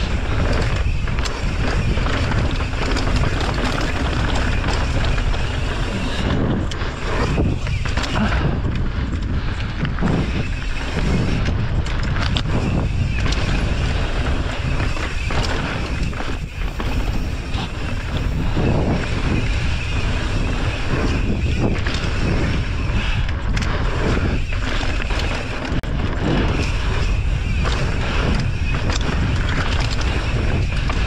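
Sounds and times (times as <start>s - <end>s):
bike knocks and rattles: 0.0s - 31.0s
wind rushing over microphone: 0.0s - 31.0s.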